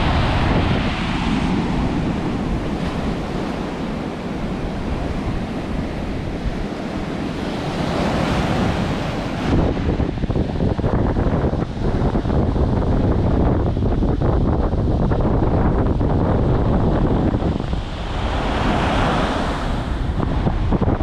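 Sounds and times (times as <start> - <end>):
sea surf breaking on beach: 0.0 - 21.0
wind buffeting microphone: 0.0 - 21.0.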